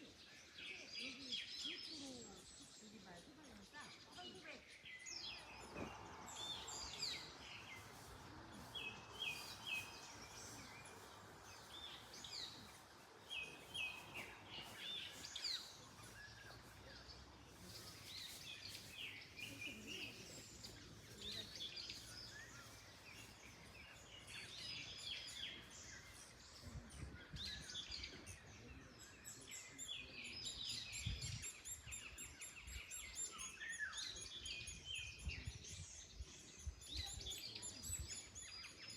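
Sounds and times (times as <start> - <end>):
birds chirping and singing: 0.0 - 38.9.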